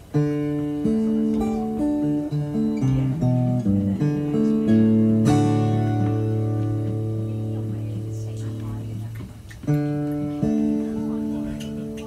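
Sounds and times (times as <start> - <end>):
acoustic guitar single notes: 0.0 - 12.0.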